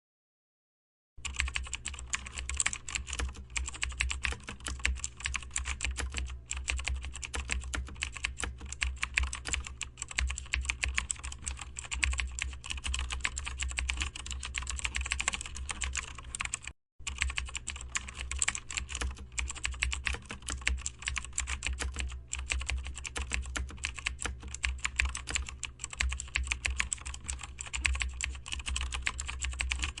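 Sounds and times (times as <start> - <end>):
rapid keyboard typing: 1.2 - 30.0.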